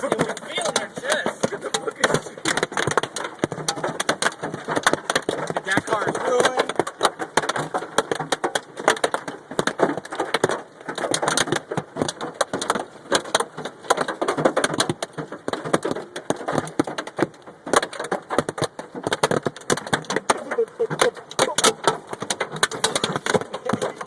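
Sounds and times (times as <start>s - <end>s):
hail clattering on a car: 0.0s - 24.0s.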